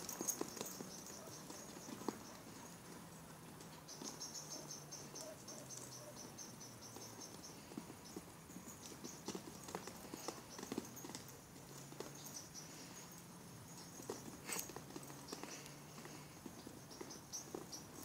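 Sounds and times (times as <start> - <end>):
hoofbeats on turf: 0.0 - 4.5, 6.4 - 13.2, 13.8 - 18.0.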